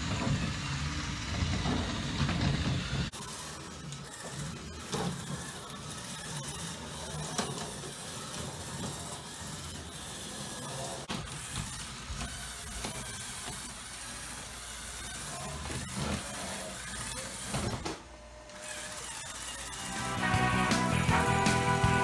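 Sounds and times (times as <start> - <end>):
small electric motors whirring: 0.0 - 22.0.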